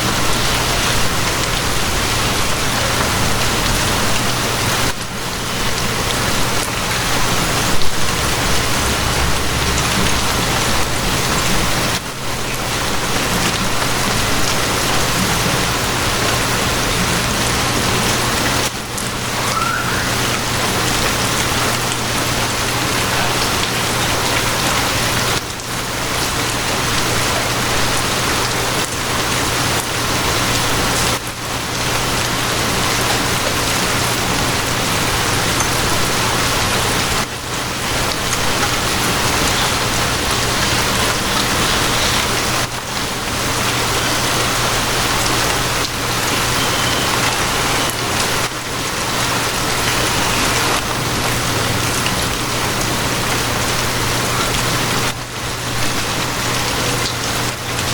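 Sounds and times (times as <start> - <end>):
steady dense rain: 0.0 - 57.9.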